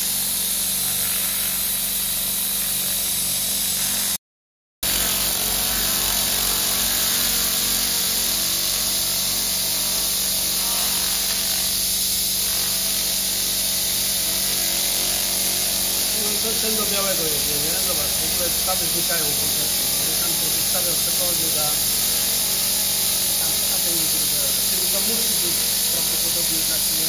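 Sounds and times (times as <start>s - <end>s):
laser cleaner hissing: 0.0s - 4.2s, 4.8s - 27.0s.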